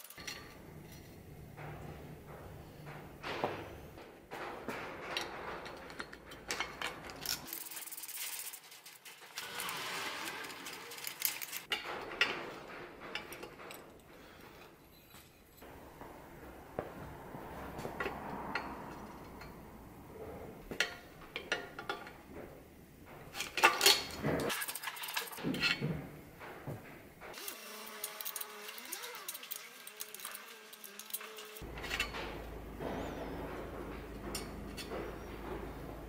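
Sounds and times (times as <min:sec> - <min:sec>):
metal clinks and scraping: 0:00.0 - 0:16.0, 0:16.8 - 0:22.3, 0:23.1 - 0:26.6, 0:27.3 - 0:36.0.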